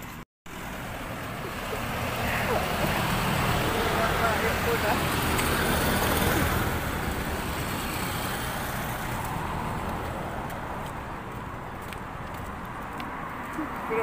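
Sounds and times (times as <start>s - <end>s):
vehicle passing on road: 0.0s - 14.0s.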